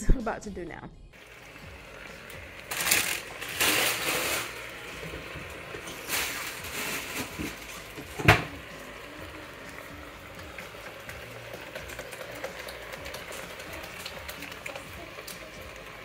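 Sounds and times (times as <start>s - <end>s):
sauce simmering: 1.2s - 16.0s.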